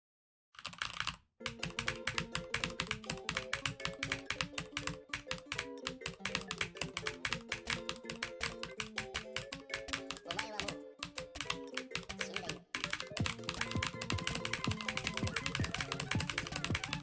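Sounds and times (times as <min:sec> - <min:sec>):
rapid keyboard clicking: 0:00.6 - 0:17.0
quiet melody of steady notes: 0:01.4 - 0:17.0.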